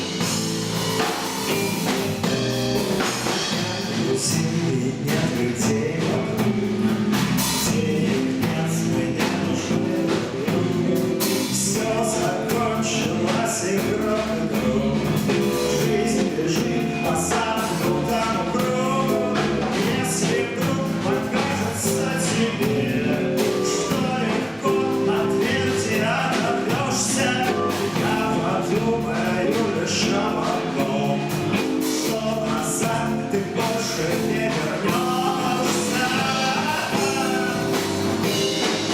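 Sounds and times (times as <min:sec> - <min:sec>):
drum kit with cymbal hits: 0:00.0 - 0:38.9
person singing: 0:00.0 - 0:38.9.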